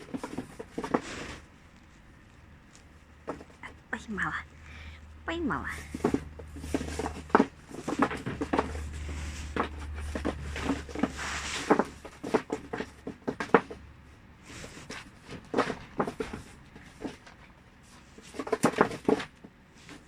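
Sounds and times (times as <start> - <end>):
rustling: 0.0 - 20.0.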